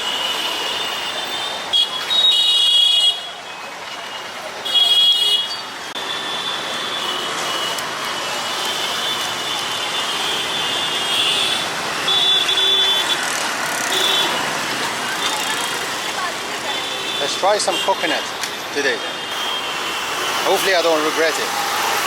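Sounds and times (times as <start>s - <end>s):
car horns: 0.0s - 22.0s
city road traffic: 0.0s - 22.0s.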